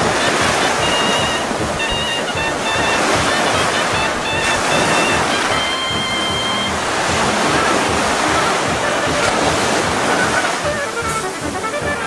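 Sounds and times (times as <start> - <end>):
ocean surf rushing: 0.0 - 12.0
wind rumbling on microphone: 0.0 - 12.0.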